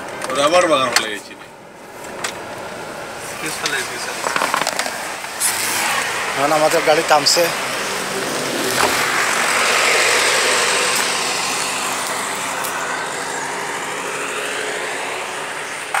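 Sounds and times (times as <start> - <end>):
road vehicle passing: 0.0 - 16.0.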